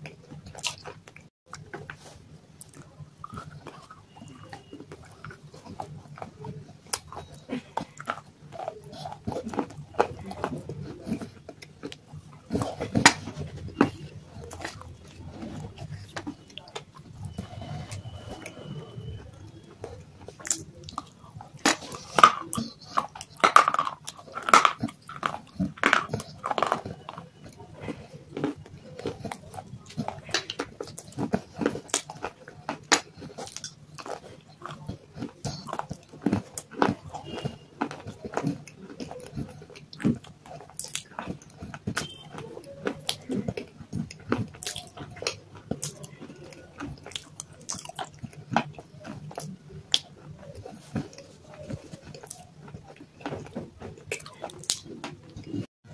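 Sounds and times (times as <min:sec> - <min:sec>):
chewing and crunching clay: 0:00.0 - 0:55.9.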